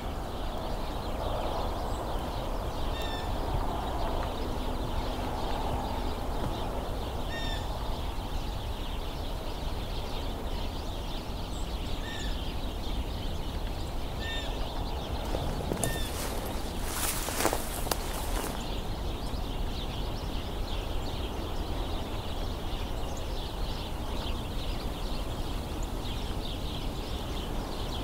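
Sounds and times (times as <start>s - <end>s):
sparrows chattering: 0.0s - 28.0s
loud sparrow chirps: 0.5s - 28.0s.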